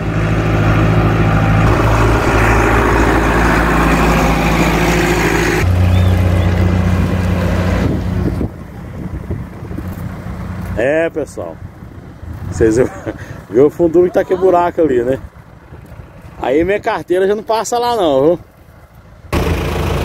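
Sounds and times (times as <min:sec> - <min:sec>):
vehicle engine running: 0:00.0 - 0:16.6, 0:18.4 - 0:20.0.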